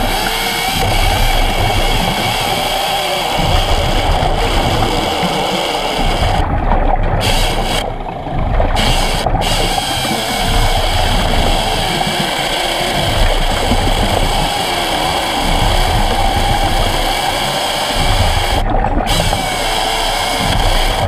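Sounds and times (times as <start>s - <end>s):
underwater chainsaw cutting wood: 0.0s - 21.0s.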